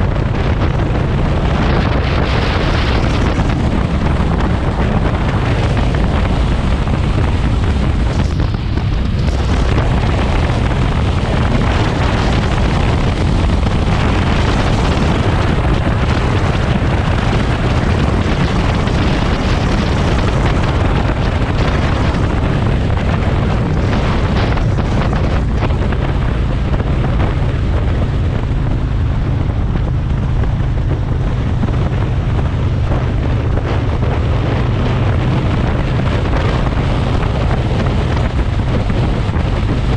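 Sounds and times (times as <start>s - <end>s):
motorcycle engine hum: 0.0s - 39.9s
wind rushing over microphone: 0.0s - 39.9s.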